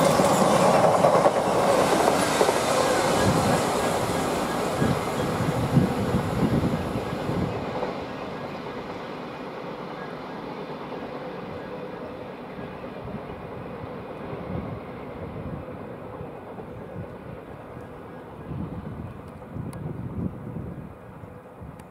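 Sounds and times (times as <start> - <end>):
freight train moving: 0.0 - 21.9.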